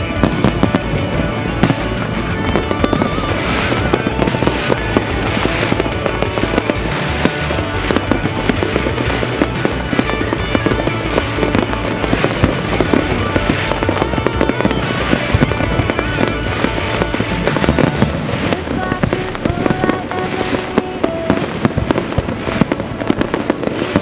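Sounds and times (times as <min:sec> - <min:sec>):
fireworks bursting and crackling: 0:00.0 - 0:24.0
music playing: 0:00.0 - 0:24.0.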